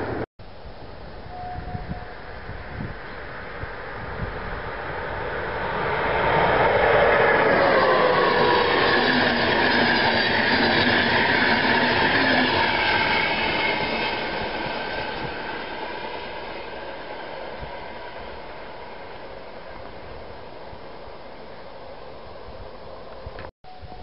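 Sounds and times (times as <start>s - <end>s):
train passing at speed: 0.0s - 0.2s, 1.3s - 23.3s.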